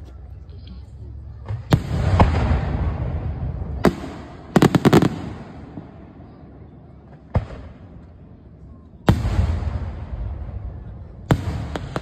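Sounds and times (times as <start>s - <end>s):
rolling low rumble echo: 0.0s - 12.0s.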